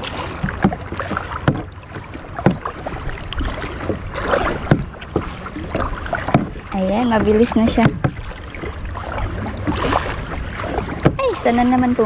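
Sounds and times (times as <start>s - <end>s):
kayak paddle splashes: 0.0s - 12.0s.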